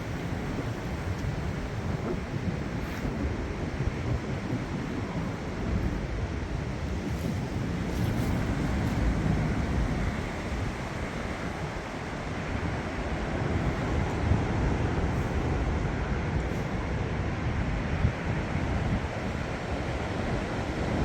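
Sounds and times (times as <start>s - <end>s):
storm wind gusting: 0.0s - 21.0s
wind buffeting microphone: 0.0s - 21.0s.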